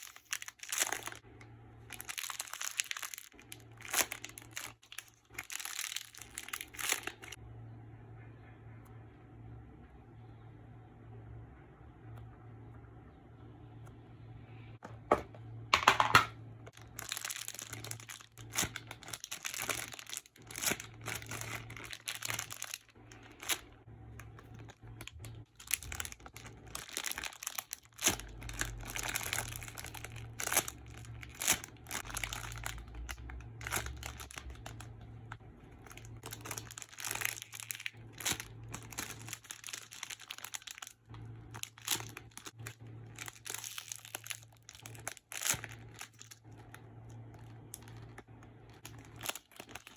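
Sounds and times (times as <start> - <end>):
plastic packaging crinkling: 0.0 - 7.4, 14.8 - 49.9.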